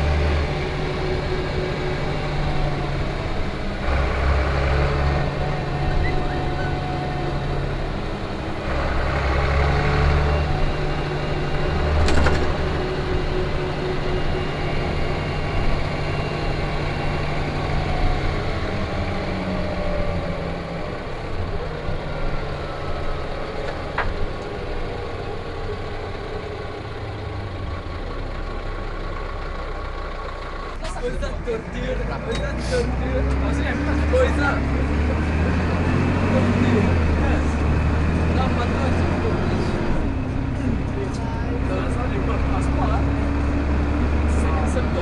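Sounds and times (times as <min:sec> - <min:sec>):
bus engine droning: 0:00.0 - 0:45.0.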